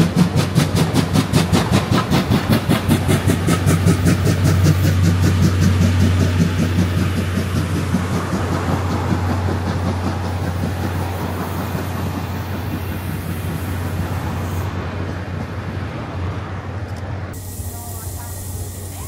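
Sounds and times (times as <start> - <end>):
train coaches rolling on rails: 0.0 - 19.0.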